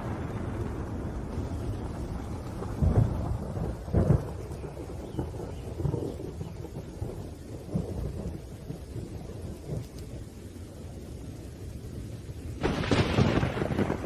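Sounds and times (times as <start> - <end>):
loud thunderclap: 0.0 - 9.9, 12.5 - 14.0
low rolling thunder: 0.0 - 14.0
rain: 0.0 - 14.0.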